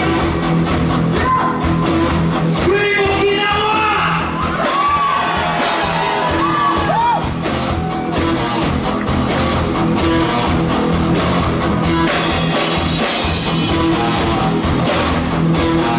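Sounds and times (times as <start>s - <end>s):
electric guitar: 0.0s - 3.2s, 4.0s - 15.9s
bass guitar: 0.0s - 15.9s
drums: 0.0s - 15.9s.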